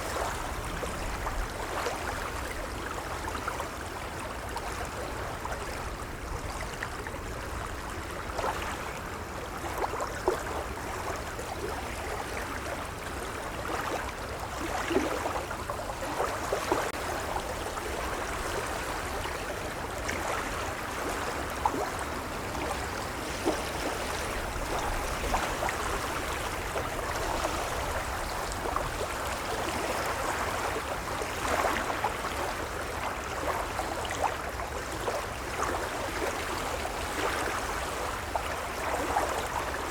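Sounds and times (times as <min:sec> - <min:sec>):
gentle waves lapping: 0:00.0 - 0:39.9.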